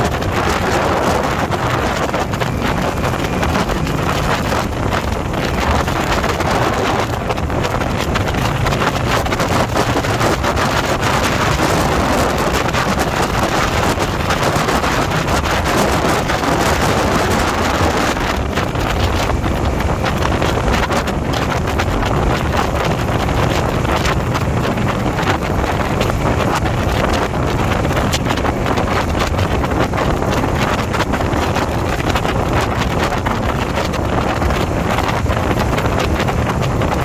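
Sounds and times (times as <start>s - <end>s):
motorcycle running: 0.0s - 37.0s
wind rushing over microphone: 0.0s - 37.0s.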